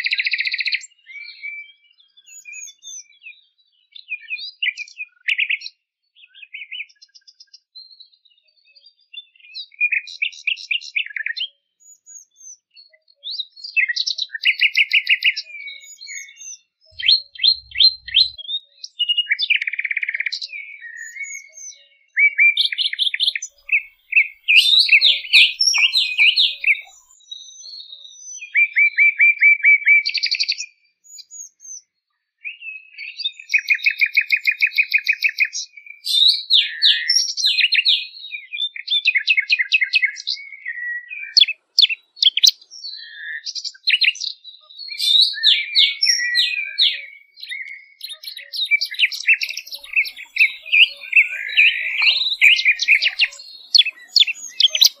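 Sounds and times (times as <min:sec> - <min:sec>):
songbird trilling and chirping: 0:00.0 - 0:07.0, 0:09.1 - 0:28.8, 0:33.0 - 0:55.0.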